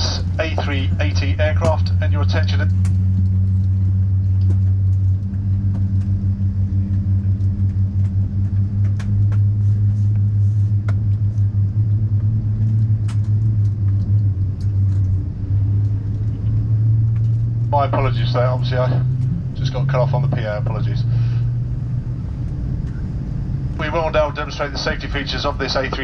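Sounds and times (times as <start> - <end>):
airplane cabin hum and rumble: 0.0 - 26.0.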